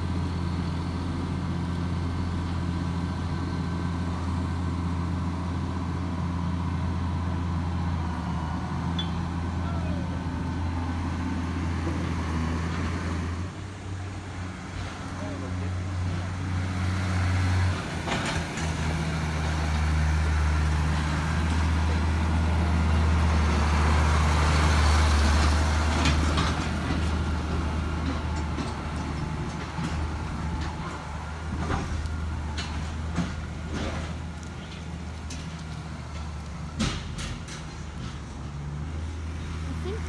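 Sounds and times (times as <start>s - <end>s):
heavy diesel engine drone: 0.0s - 40.0s.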